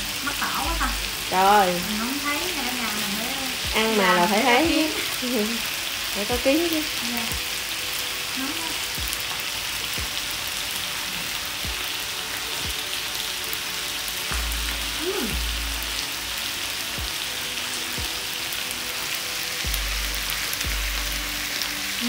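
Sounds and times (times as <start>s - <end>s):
beef sizzling on a griddle: 0.0s - 22.0s.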